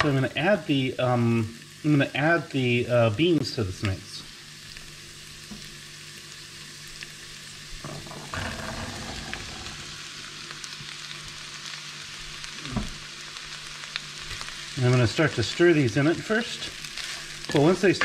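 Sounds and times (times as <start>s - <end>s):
onions sizzling in lard: 0.0s - 18.0s.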